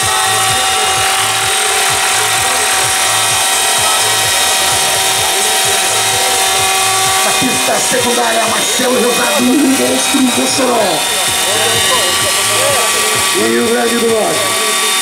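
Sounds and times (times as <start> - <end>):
helicopter engine whine: 0.0 - 15.0
rotor pulsing: 0.0 - 15.0.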